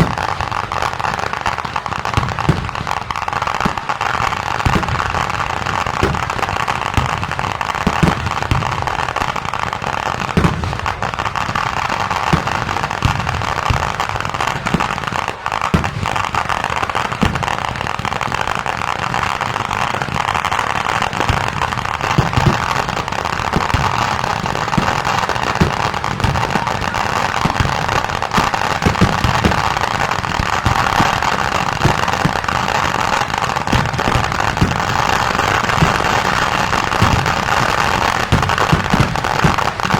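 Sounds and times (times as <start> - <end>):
crackling din: 0.0 - 39.9
firework explosions: 0.0 - 39.9.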